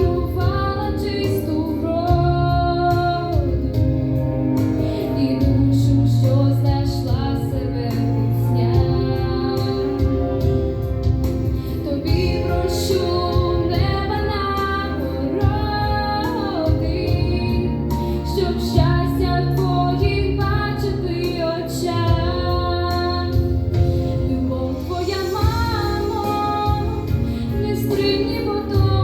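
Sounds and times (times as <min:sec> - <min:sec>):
instrumental backing track: 0:00.0 - 0:29.0
woman singing: 0:00.0 - 0:29.0.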